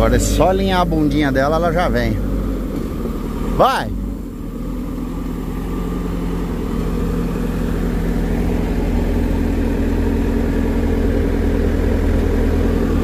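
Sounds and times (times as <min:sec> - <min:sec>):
diesel engine working under load: 0:00.0 - 0:13.0.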